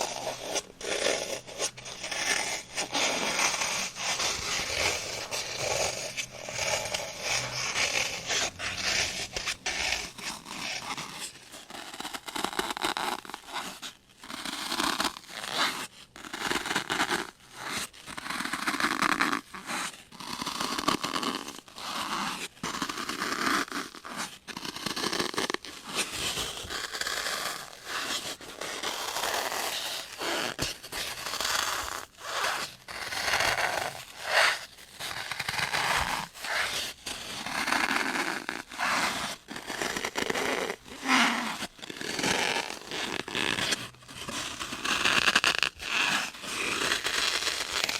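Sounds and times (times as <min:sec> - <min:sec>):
crinkly tearing textures: 0:00.0 - 0:47.9
scratching and scraping objects: 0:00.0 - 0:47.9.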